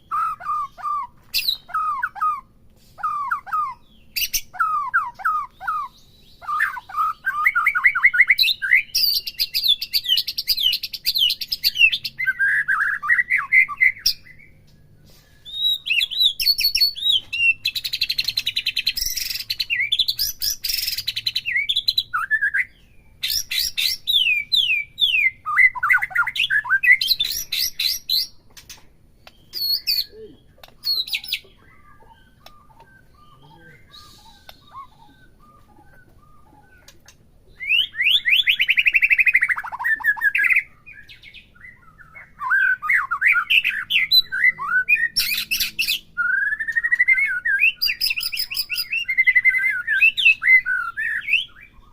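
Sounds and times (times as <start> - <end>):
songbird chirping and whistling: 0.0 - 51.9.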